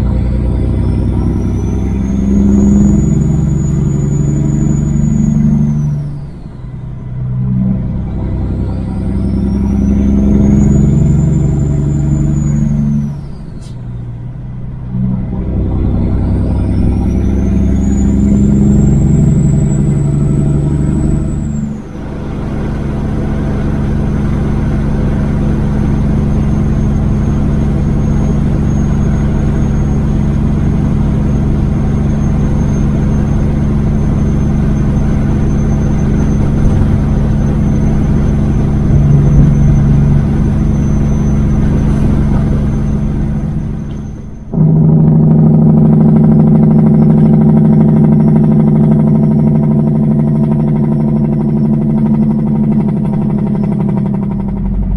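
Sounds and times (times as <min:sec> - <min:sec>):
road and wind noise: 0:00.0 - 0:54.9
truck diesel engine running: 0:00.0 - 0:54.9.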